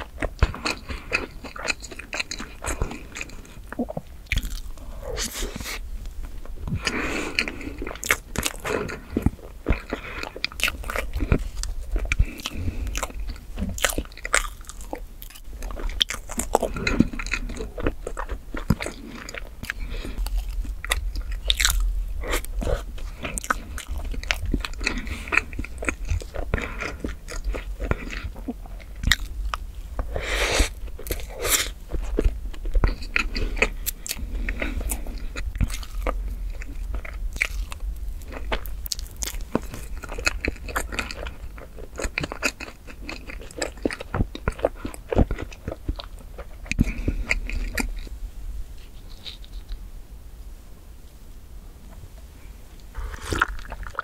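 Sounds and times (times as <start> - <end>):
chewing with wet mouth smacks: 0.0 - 5.8, 6.5 - 48.1, 52.8 - 54.0.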